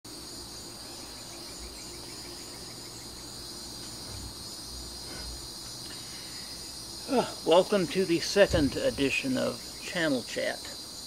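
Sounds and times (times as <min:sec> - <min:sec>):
crickets and insects chorus: 0:00.1 - 0:11.0.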